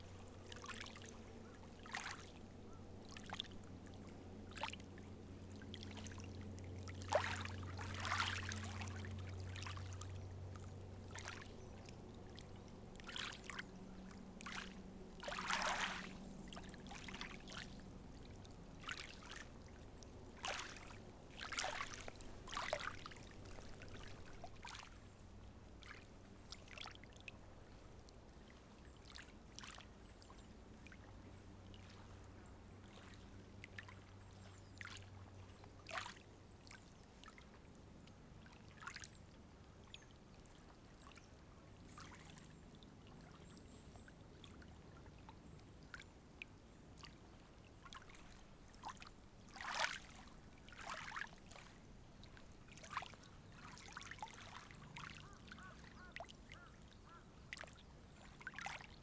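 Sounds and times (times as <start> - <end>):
low steady hum: 0.0 - 59.0
small waves lapping on shore: 0.0 - 59.0.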